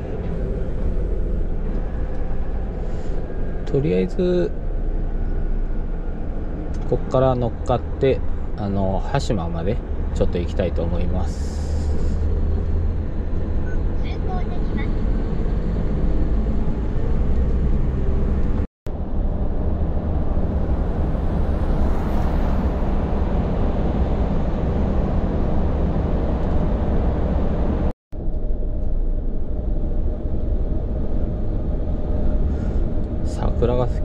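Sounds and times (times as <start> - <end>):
truck diesel engine rumble: 0.0 - 34.0.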